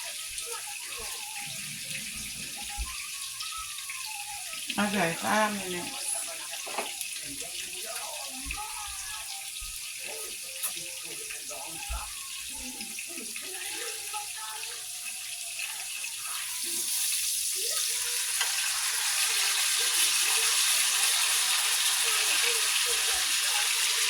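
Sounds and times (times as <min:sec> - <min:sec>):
steak sizzling in a frying pan: 0:00.0 - 0:24.0.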